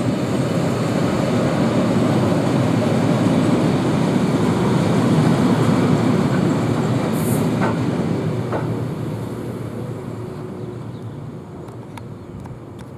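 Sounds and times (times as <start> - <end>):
freight train wheels rumbling: 0.0 - 12.9.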